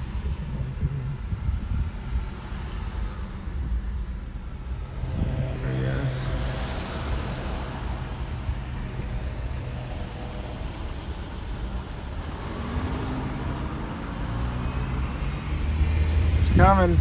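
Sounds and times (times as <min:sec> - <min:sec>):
passing engine drone: 0:00.0 - 0:17.0.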